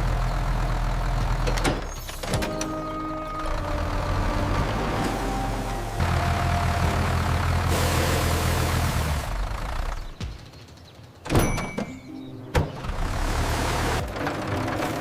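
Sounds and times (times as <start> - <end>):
tractor engine running: 0.0 - 10.5, 12.6 - 15.0.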